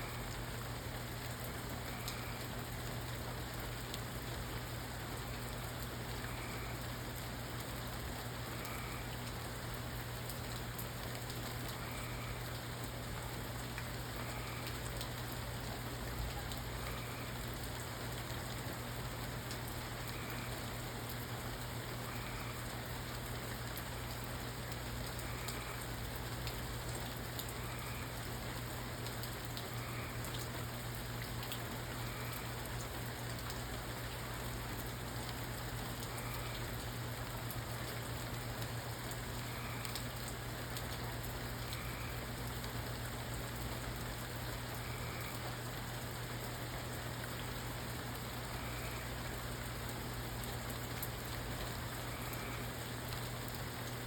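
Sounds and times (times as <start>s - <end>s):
rain falling: 0.0s - 54.0s
raindrops ticking: 0.1s - 54.0s.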